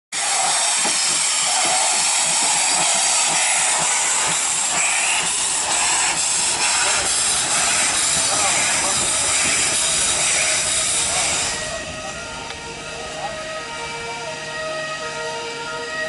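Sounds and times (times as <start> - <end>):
steam locomotive hissing: 0.1 - 15.2.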